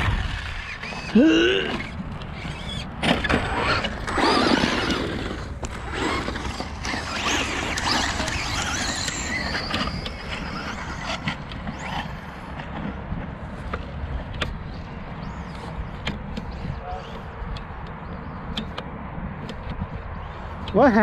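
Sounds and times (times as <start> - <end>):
rc truck motors whining: 0.0 - 21.0.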